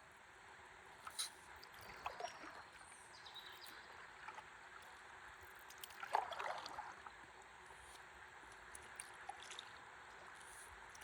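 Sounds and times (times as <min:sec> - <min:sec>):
faint river water: 0:00.0 - 0:11.0.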